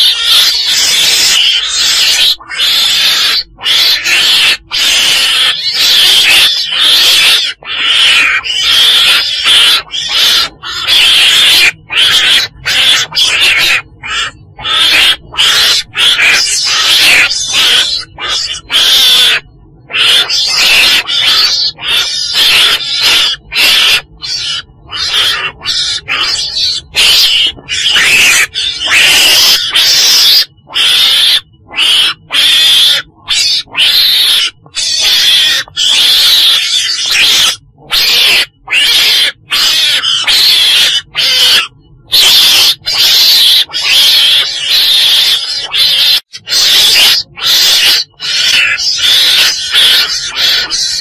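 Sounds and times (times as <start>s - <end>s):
weasel screeching: 0.0s - 51.0s.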